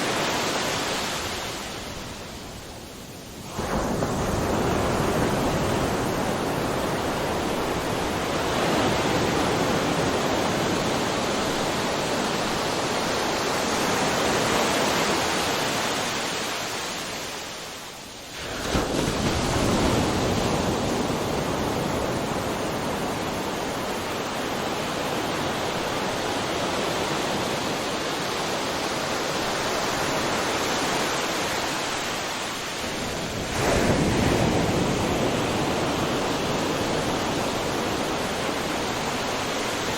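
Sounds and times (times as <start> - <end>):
ocean waves breaking: 0.0 - 2.2, 3.5 - 17.7, 18.3 - 39.9.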